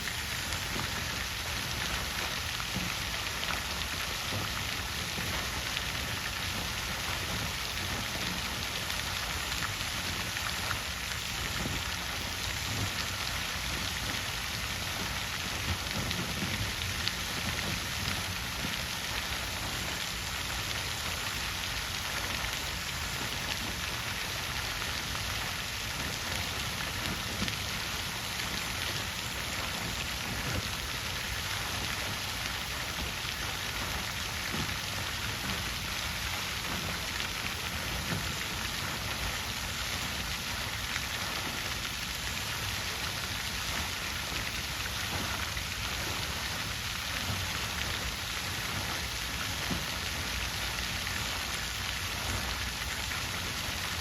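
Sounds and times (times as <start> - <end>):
water fountain splashing: 0.0 - 54.0.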